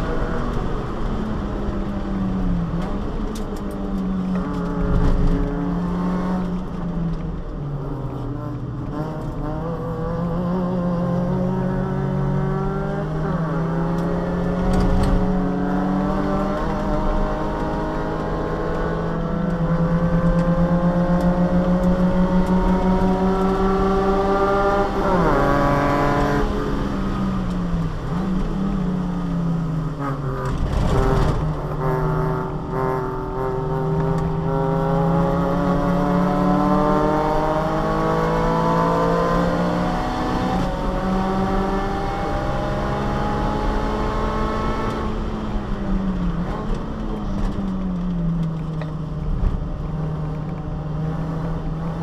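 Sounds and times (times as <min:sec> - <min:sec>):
car engine running hard: 0:00.0 - 0:52.0.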